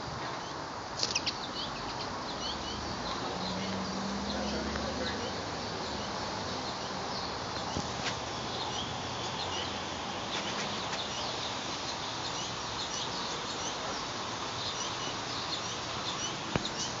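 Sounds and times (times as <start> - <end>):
songbirds chirping: 0.0 - 17.0
steady background hiss: 0.0 - 17.0.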